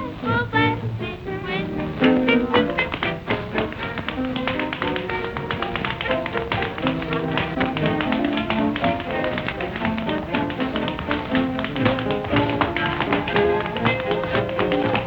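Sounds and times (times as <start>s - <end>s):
small jazz band playing: 0.0s - 15.0s
tap-dance steps: 0.3s - 15.0s.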